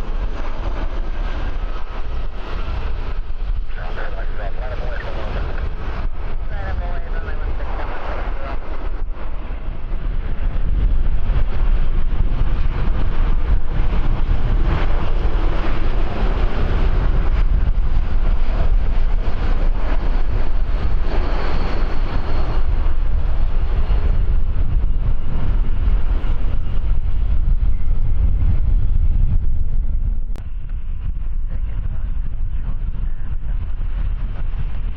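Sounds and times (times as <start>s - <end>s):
jet engines rumbling: 0.0s - 34.9s
wind buffeting microphone: 0.0s - 34.9s.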